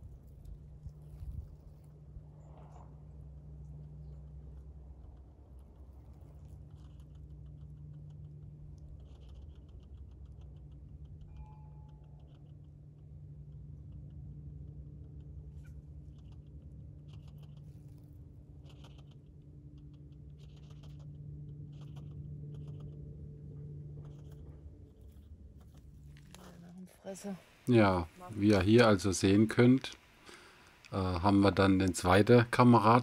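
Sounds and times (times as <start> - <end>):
low hum: 0.0 - 33.0
hedgehog snuffling: 4.0 - 33.0.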